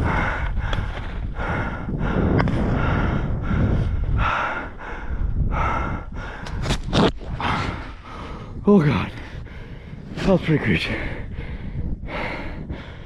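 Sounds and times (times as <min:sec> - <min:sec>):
person breathing hard: 0:00.0 - 0:06.6, 0:07.3 - 0:10.1, 0:11.0 - 0:13.0
wind rumble on microphone: 0:00.0 - 0:13.0.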